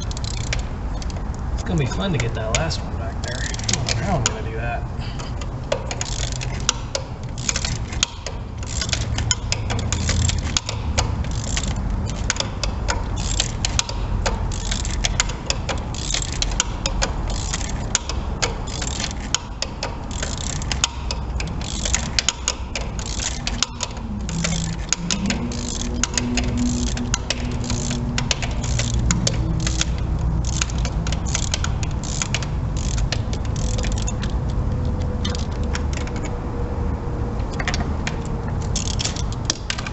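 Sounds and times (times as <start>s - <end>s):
socket ratchet clicking: 0.0s - 1.5s, 2.2s - 4.4s, 5.2s - 36.3s, 37.5s - 39.9s.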